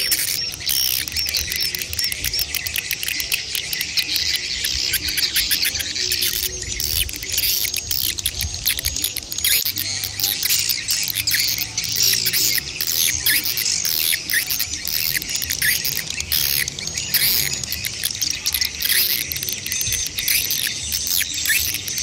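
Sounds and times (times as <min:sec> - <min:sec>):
swiftlets twittering and chirping: 0:00.0 - 0:22.0.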